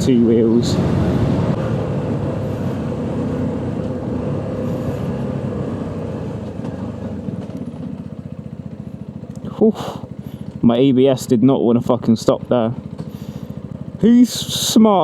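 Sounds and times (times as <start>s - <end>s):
motorcycle engine slowing: 0.0s - 15.0s.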